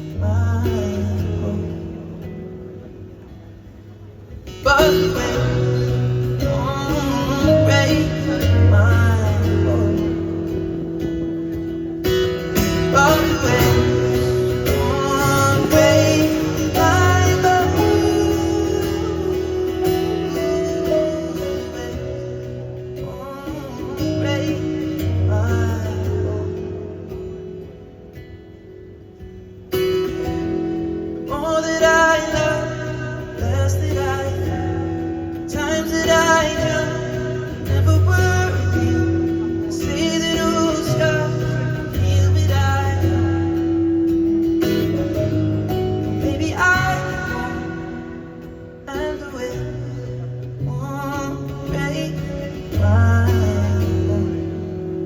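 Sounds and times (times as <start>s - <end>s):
acoustic guitar music: 0.0s - 55.0s
person singing: 4.5s - 27.0s, 30.1s - 55.0s.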